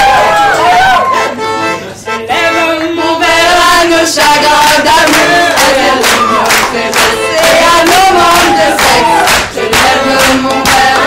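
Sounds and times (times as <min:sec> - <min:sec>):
crowd singing and shouting: 0:02.0 - 0:11.0.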